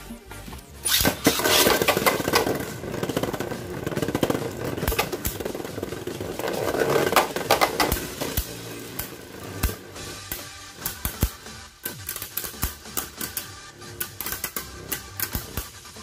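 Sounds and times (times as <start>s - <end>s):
spinning tops clicking together: 0.8s - 16.0s
spinning tops whirring and grinding: 0.8s - 16.0s.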